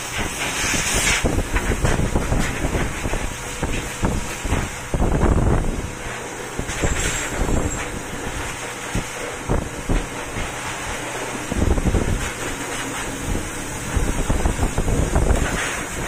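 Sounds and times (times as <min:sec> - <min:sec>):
pet dryer blowing air: 0:00.0 - 0:16.0
wind buffeting microphone: 0:00.0 - 0:16.0.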